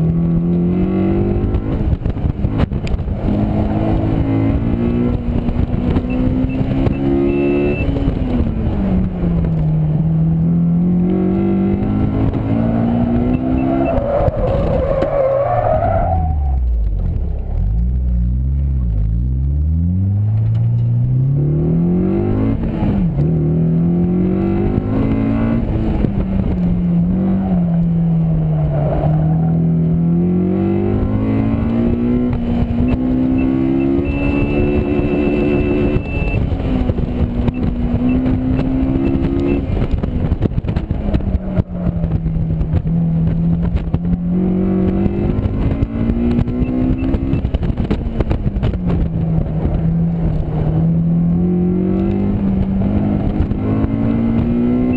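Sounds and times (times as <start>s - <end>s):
car engine revving high: 0.0s - 54.9s.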